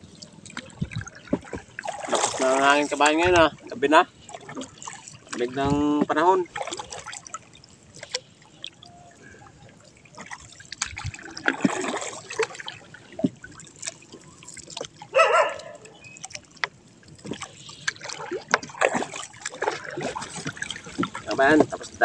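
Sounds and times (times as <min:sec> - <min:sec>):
water trickling and splashing: 0:00.0 - 0:22.0
clicks and knocks against boat: 0:00.4 - 0:03.7, 0:04.3 - 0:08.9, 0:10.2 - 0:22.0.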